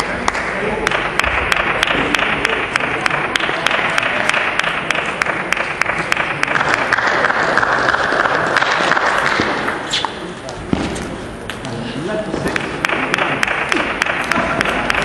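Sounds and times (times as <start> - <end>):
table tennis balls clicking: 0.0 - 11.7, 12.4 - 15.0
echoing hubbub of large hall: 0.0 - 15.0.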